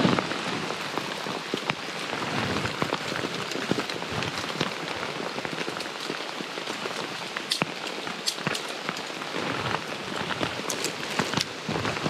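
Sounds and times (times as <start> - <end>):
heavy rain on a tent: 0.0 - 12.0.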